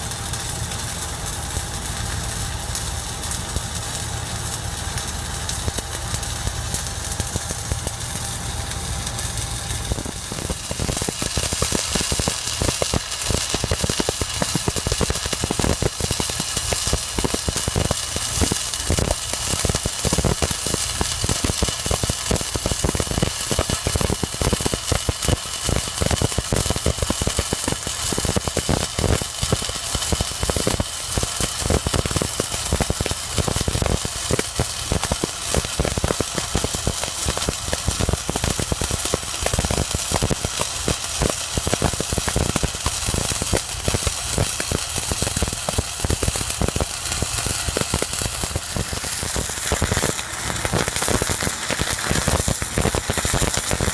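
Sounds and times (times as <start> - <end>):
welding arc crackling: 0.0 - 53.9.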